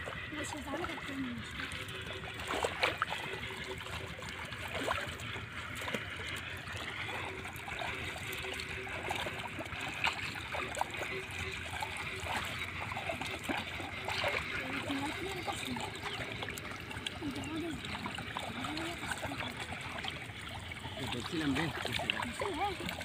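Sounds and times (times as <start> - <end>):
shallow water splashing: 0.0 - 23.0.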